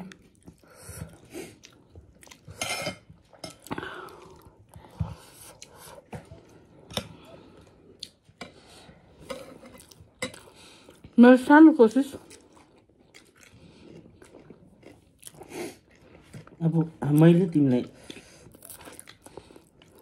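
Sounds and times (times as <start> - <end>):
person chewing rice: 0.0 - 11.2, 12.1 - 17.2, 17.9 - 20.0.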